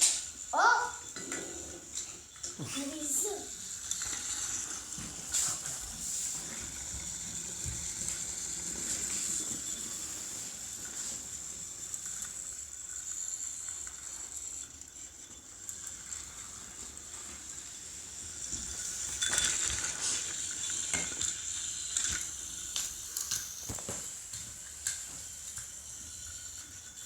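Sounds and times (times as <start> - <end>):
toy train motors whirring: 0.0 - 27.0
trains clattering on wooden track: 0.1 - 27.0.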